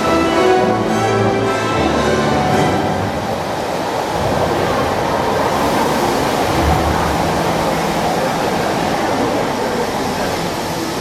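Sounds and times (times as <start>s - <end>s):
murmur of large crowd talking: 0.0s - 11.0s.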